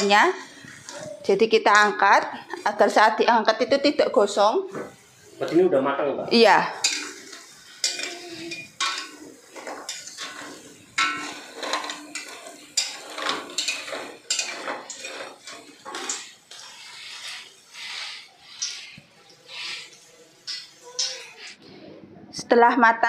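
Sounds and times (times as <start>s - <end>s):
metal utensils scraping a wok: 0.0s - 3.2s, 6.4s - 21.6s.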